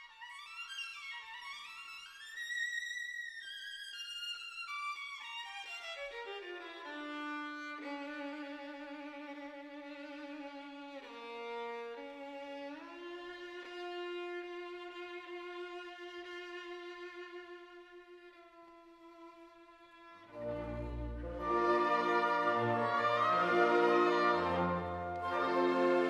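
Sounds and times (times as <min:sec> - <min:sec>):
solo violin melody: 0:00.0 - 0:26.0.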